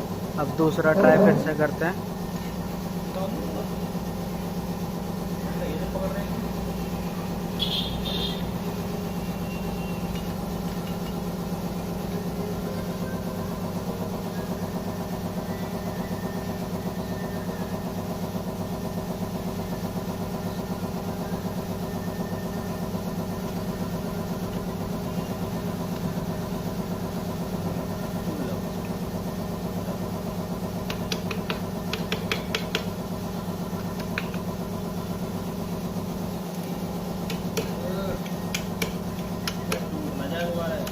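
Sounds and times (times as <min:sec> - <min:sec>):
motor humming: 0:00.0 - 0:40.9.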